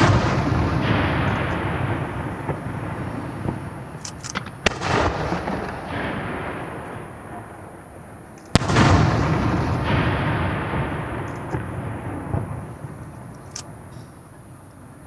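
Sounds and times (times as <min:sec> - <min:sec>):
fireworks bang with rumbling echo: 0:00.0 - 0:13.9
fireworks crackling: 0:00.0 - 0:14.4.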